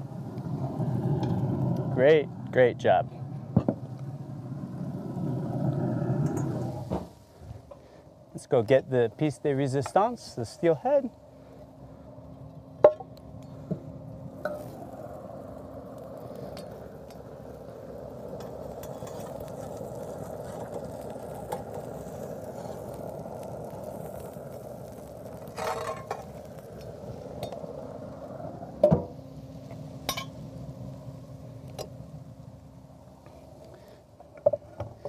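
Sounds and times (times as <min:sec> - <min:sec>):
steady background noise: 0:00.0 - 0:35.0.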